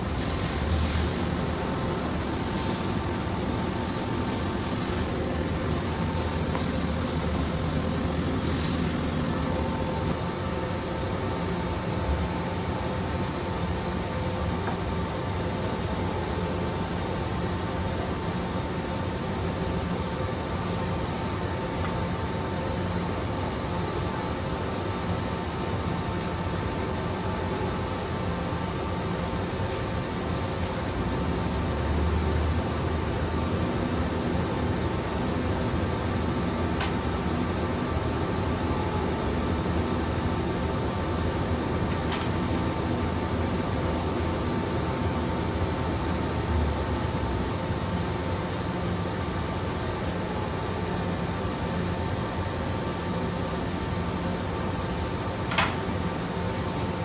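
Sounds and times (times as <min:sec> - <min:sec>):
machinery hum with whine: 0:00.0 - 0:57.0.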